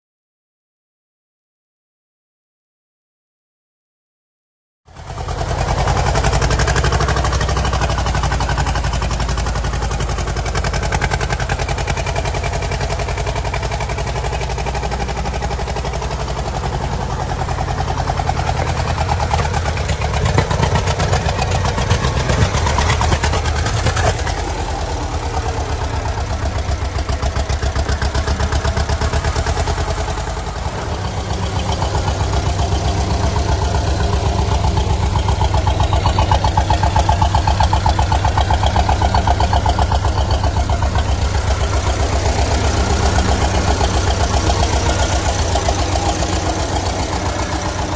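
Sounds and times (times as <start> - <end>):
tractor engine idling: 4.9 - 47.9.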